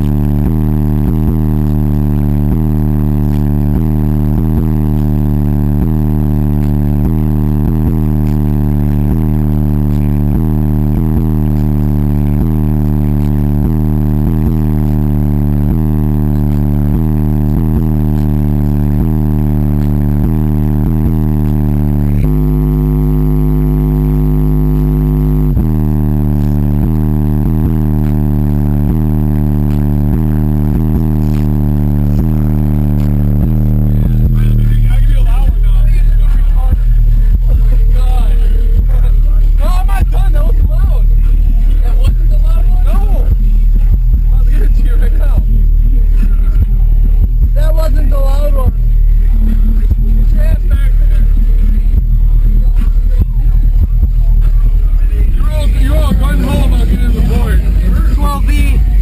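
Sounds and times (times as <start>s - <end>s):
loud subwoofer bass music: 0.0s - 59.0s.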